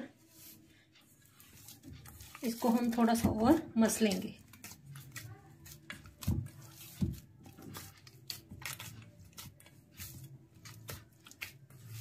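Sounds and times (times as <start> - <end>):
dough squishing in a bowl: 0.0 - 12.0.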